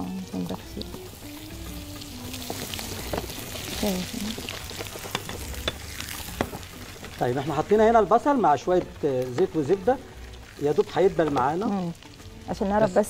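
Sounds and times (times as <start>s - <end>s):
onions sizzling in a pan: 0.0s - 13.0s.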